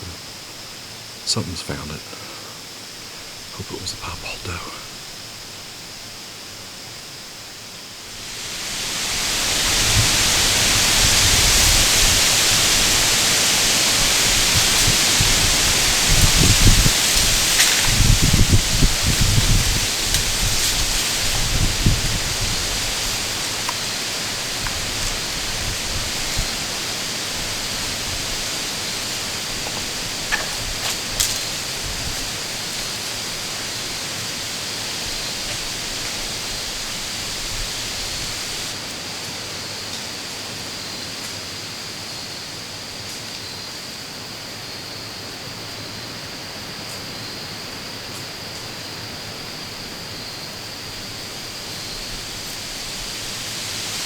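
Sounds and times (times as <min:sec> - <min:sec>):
strong wind through trees: 0:00.0 - 0:54.0.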